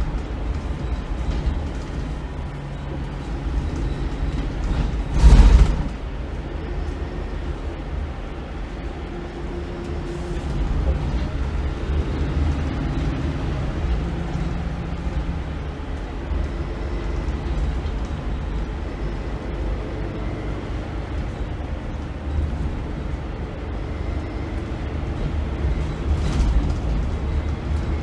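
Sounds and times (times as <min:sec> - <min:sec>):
bus diesel engine running: 0:00.0 - 0:28.0
road and body noise: 0:00.0 - 0:28.0.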